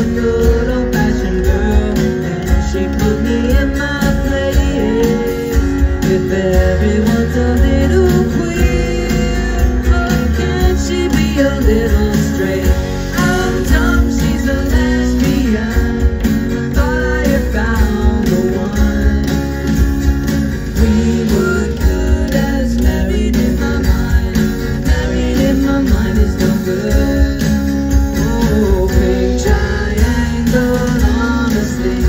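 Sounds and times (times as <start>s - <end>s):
man singing into a microphone: 0.0s - 19.8s, 20.6s - 32.0s
acoustic guitar strumming: 0.0s - 32.0s.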